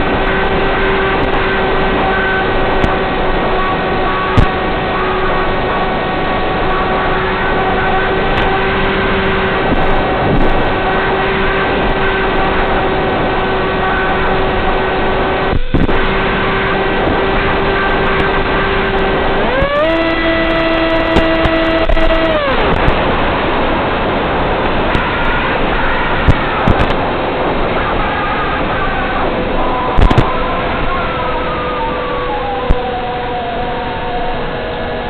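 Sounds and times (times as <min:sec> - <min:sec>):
electric motor and propeller hum: 0:00.0 - 0:35.0
wind noise: 0:00.0 - 0:35.0.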